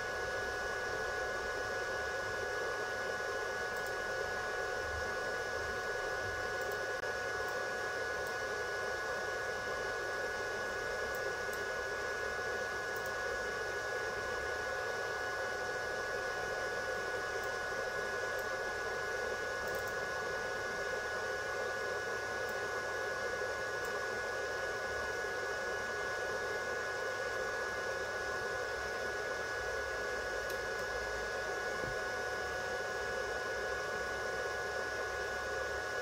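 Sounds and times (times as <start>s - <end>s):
cooling fan whirring: 0.0s - 36.0s.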